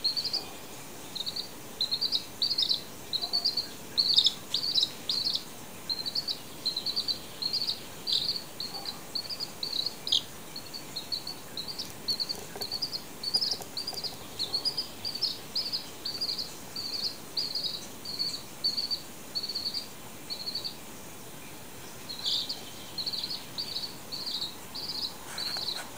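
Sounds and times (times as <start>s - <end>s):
chick peeping: 0.0s - 20.8s, 22.1s - 25.9s.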